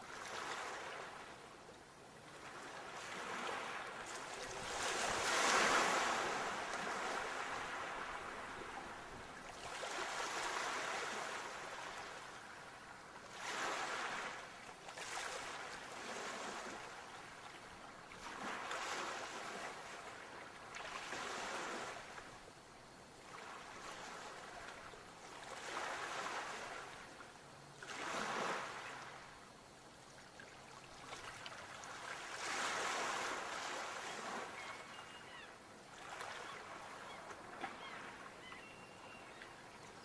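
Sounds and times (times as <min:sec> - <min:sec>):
sea waves breaking on shore: 0:00.0 - 0:01.4, 0:02.3 - 0:22.4, 0:23.2 - 0:27.2, 0:27.8 - 0:29.3, 0:30.4 - 0:40.0.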